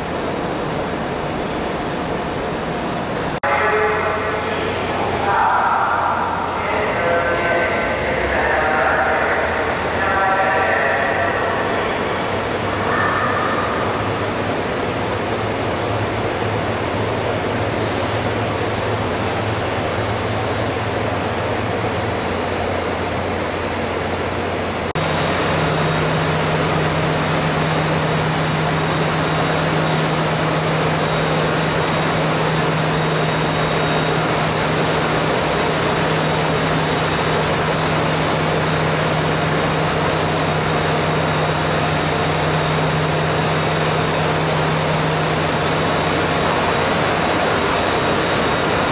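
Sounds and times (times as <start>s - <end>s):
workshop machinery hum: 0.0s - 48.9s.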